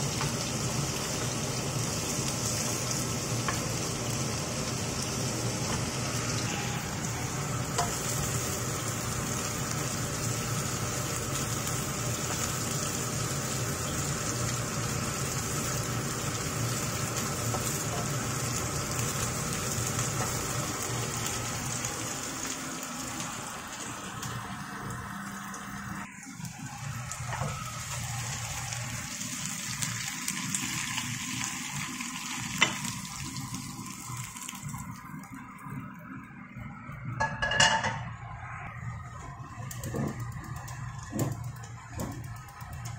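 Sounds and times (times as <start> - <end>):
prawns sizzling in oil: 0.0 - 37.8, 38.5 - 42.9.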